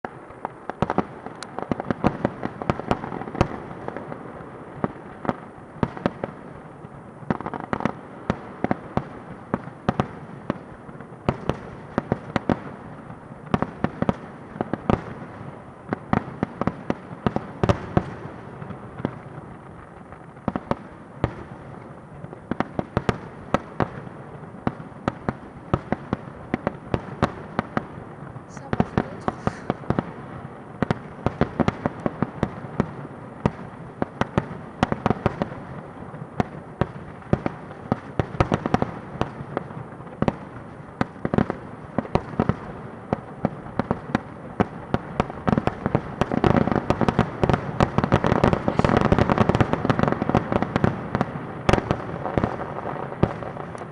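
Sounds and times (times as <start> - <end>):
fireworks banging: 0.0 - 53.9
fireworks crackle and rumble: 0.0 - 53.9.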